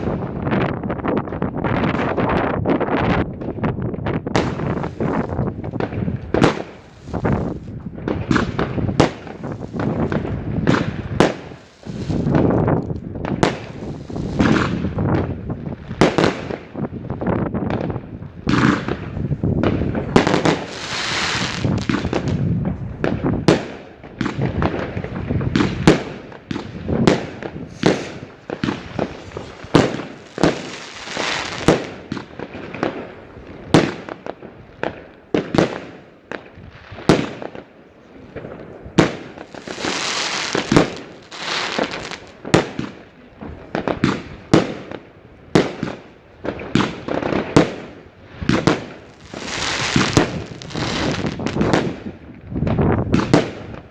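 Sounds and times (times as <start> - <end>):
fireworks bangs: 0.0 - 53.9
hissing crackle of fireworks: 0.0 - 53.9.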